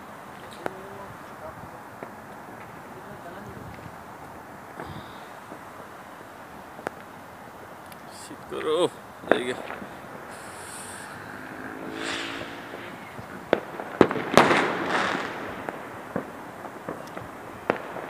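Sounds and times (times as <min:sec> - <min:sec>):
small fireworks pops: 0:00.0 - 0:11.2, 0:12.0 - 0:18.0
fireworks bangs: 0:00.0 - 0:18.0
fireworks crackle: 0:00.0 - 0:18.0.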